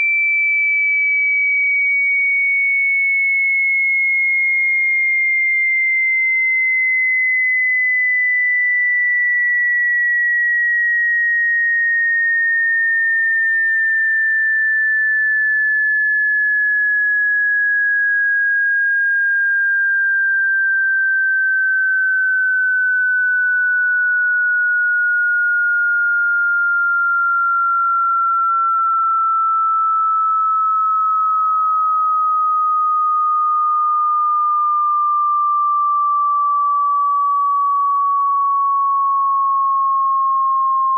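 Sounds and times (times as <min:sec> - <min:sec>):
sine tone sweeping lower: 0:00.0 - 0:40.9.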